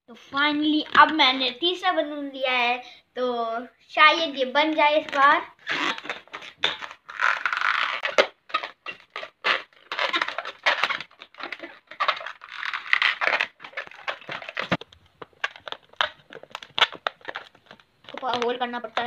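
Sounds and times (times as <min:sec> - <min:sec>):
balloon rubbing and scrunching: 0:00.4 - 0:02.0, 0:04.0 - 0:19.0.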